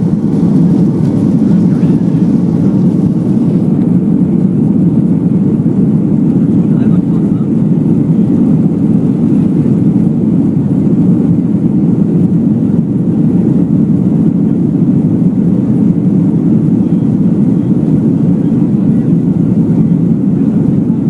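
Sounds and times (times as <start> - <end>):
jet engines rushing in cabin: 0.0 - 21.0.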